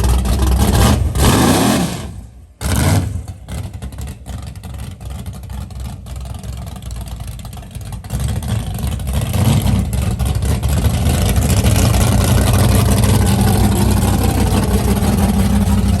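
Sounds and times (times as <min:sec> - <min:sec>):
engine revving: 0:00.0 - 0:04.9, 0:08.0 - 0:16.0.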